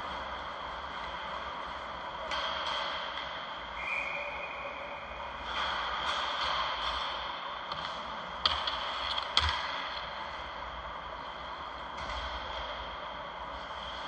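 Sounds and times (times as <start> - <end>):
distant skating: 0.0 - 14.0.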